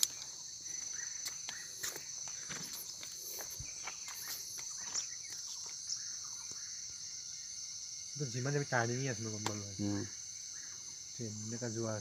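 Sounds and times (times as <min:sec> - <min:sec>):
forest insects chorus: 0:00.0 - 0:12.0.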